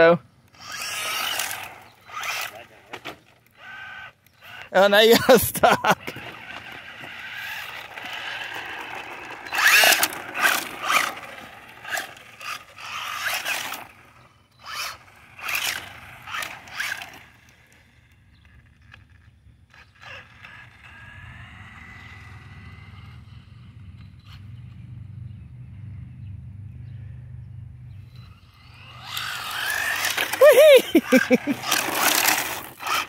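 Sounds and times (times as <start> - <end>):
toy car electric motor whining: 0.0 - 24.8, 28.0 - 33.0.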